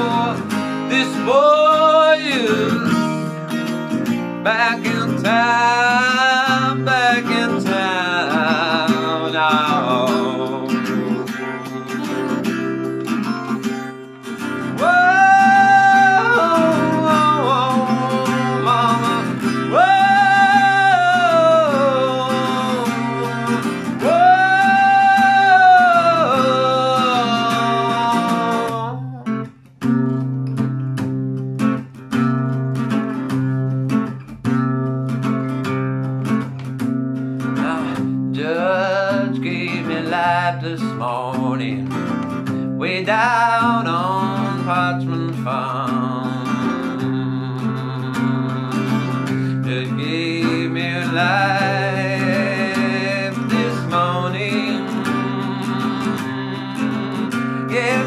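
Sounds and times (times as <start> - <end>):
man singing: 0.0 - 3.4, 4.0 - 29.5, 37.4 - 58.0
acoustic guitar: 0.0 - 58.0.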